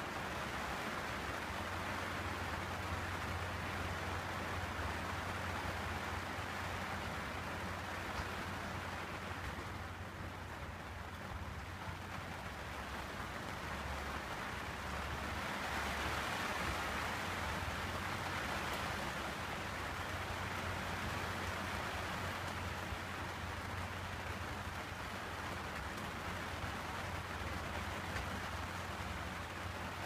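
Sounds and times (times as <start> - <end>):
rain on deck and windows: 0.0 - 30.0.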